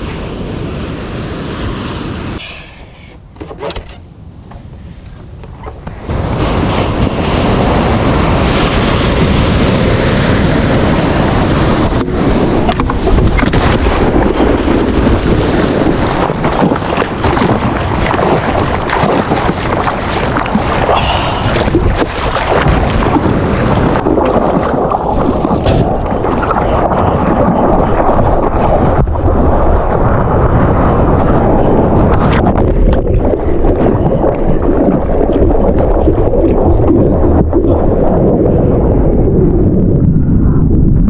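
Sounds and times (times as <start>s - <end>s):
surf and rushing water: 0.0s - 2.6s, 5.6s - 39.6s
wind buffeting microphone: 4.2s - 41.0s.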